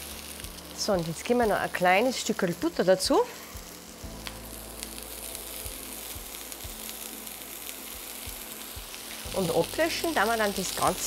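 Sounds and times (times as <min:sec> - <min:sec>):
frying hiss in pan: 0:00.0 - 0:11.0
oil crackles: 0:00.0 - 0:11.0.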